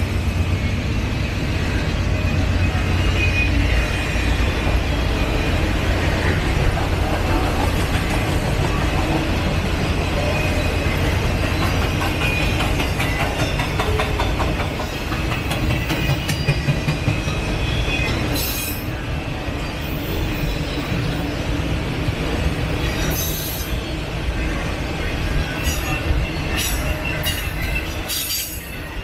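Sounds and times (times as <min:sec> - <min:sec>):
train wheels rumbling on rail: 0:00.0 - 0:29.0
high wheel squeal: 0:00.5 - 0:07.4, 0:08.7 - 0:21.5, 0:22.4 - 0:29.0.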